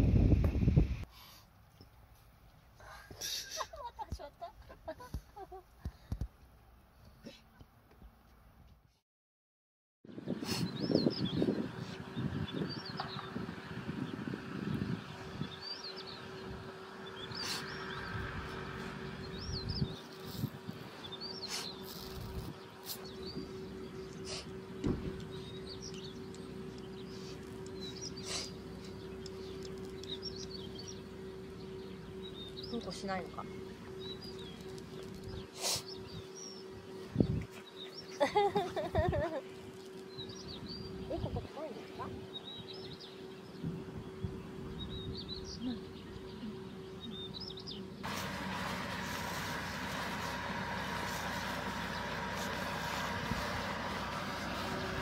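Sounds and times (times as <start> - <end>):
outdoor hiss and rumble: 0.0 - 7.0, 10.2 - 55.0
small birds chirping: 10.1 - 55.0
steady low hum: 10.3 - 55.0.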